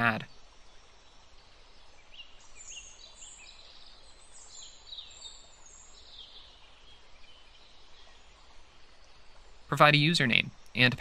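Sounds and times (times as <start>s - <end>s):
birds chirping: 0.0s - 11.0s
low background hiss: 0.0s - 11.0s.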